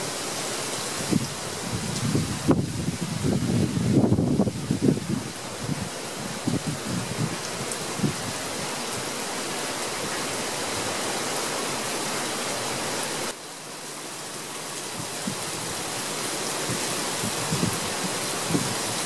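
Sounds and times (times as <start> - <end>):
heavy rain on a tarp: 0.0 - 19.0.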